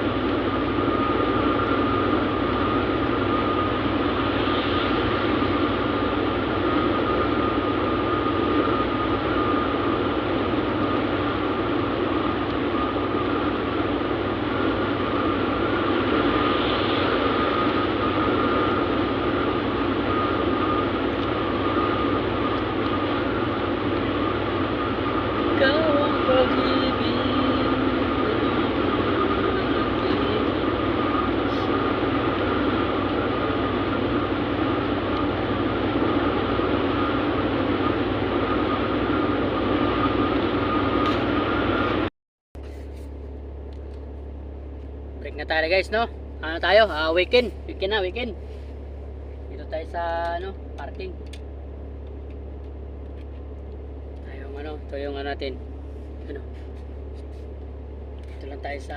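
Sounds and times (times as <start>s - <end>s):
faint high whine: 0.0s - 58.9s
truck running on road: 0.0s - 58.9s.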